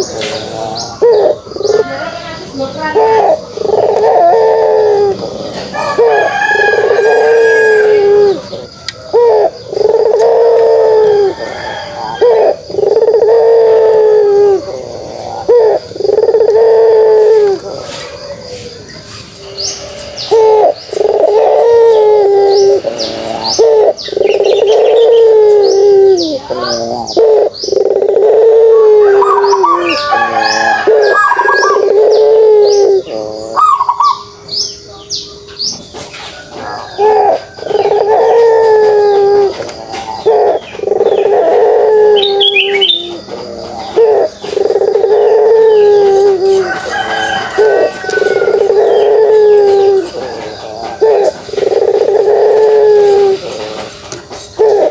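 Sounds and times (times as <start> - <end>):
dove cooing: 0.0 - 35.5, 36.4 - 54.9.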